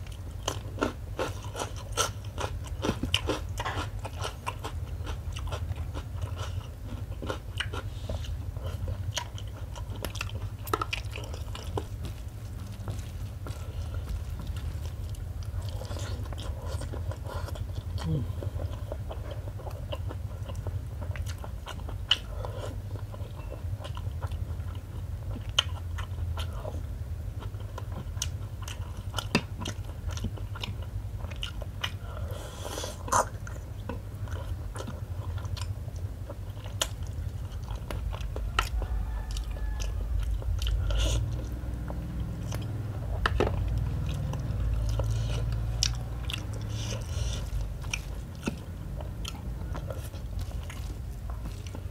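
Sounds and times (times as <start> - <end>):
low steady hum: 0.0 - 51.9
person chewing food: 0.0 - 51.9.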